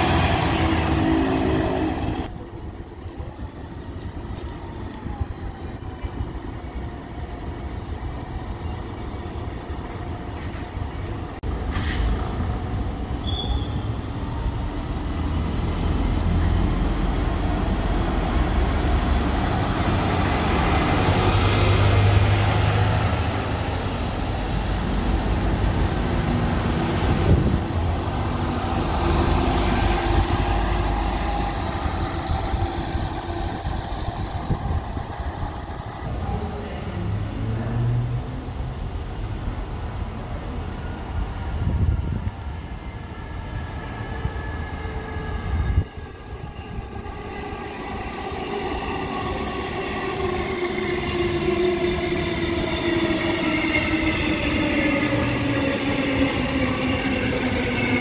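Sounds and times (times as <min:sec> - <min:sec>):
buses driving by: 0:00.0 - 0:58.0.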